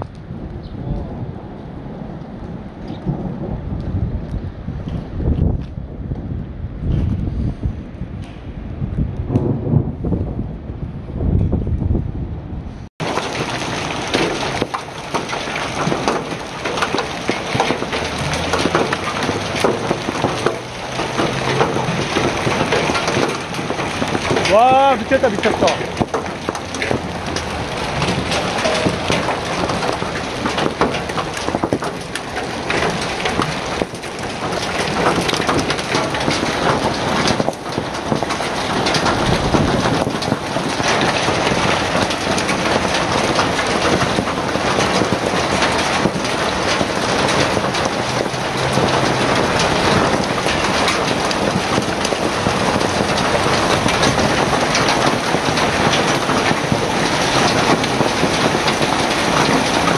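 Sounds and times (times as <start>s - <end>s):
hail pelting pavement and cars: 0.0s - 6.2s, 13.0s - 59.9s.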